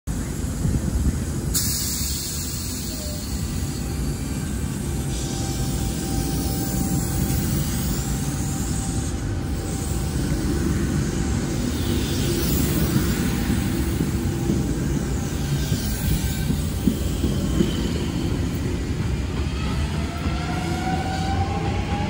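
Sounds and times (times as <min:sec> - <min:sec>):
train cars rumbling past: 0:00.1 - 0:22.0.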